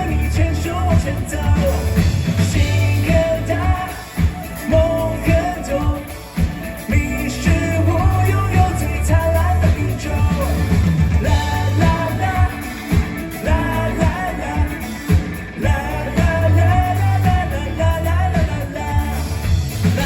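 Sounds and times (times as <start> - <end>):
live pop-rock band playing: 0.0 - 20.0
loud steady drums: 0.0 - 20.0.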